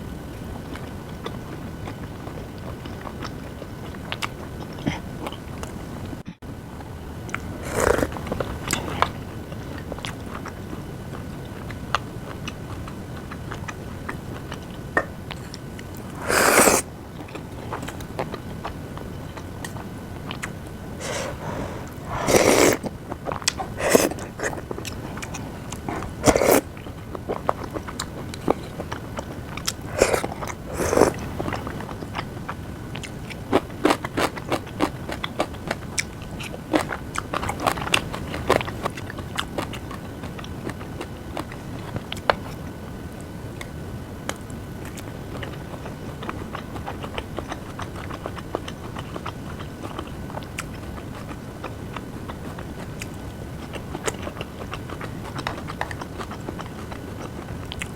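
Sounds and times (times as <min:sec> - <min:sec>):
person chewing food: 0:07.3 - 0:42.1, 0:44.9 - 0:57.9.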